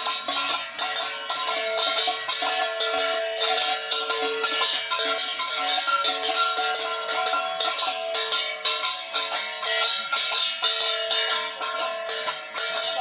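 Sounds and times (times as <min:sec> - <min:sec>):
shaking percussion: 0:00.0 - 0:13.0.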